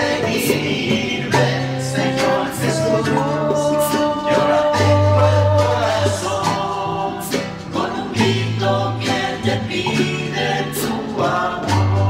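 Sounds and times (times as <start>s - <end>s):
sustained bass notes: 0.0s - 12.0s
voices singing worship song: 0.0s - 12.0s.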